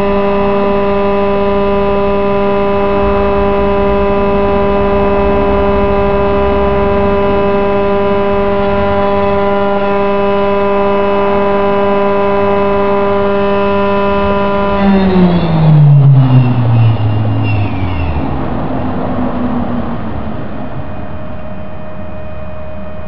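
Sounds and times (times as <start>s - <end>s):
electric spindle motor whine: 0.0s - 23.0s.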